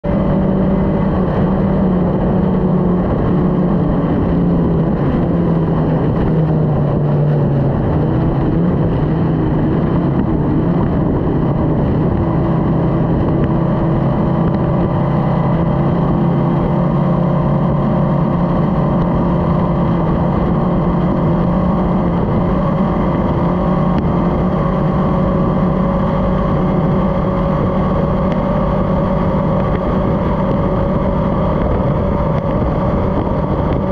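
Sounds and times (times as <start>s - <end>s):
powerboat engine at full speed: 0.0s - 33.9s
wind and water rushing: 0.0s - 33.9s.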